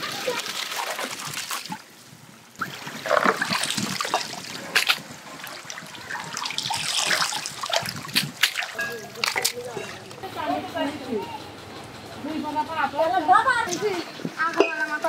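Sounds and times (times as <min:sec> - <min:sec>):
water splashing and sloshing: 0:00.0 - 0:10.8, 0:13.4 - 0:15.0.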